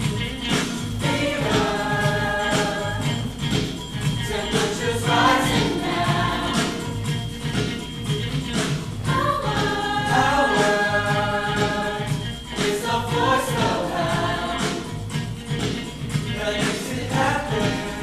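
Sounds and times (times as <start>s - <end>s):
choir singing in harmony: 0.0s - 18.0s
pop accompaniment with beat: 0.0s - 18.0s.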